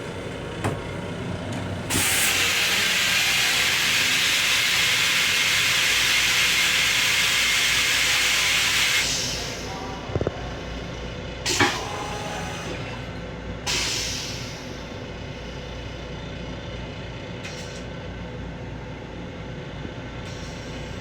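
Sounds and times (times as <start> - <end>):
railcar running rumble: 0.0 - 21.0.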